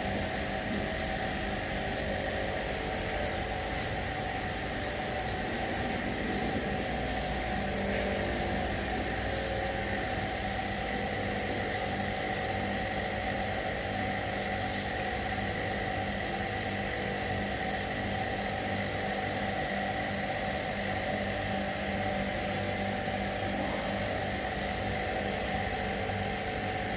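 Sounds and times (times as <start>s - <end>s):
motor humming steadily: 0.0s - 26.9s.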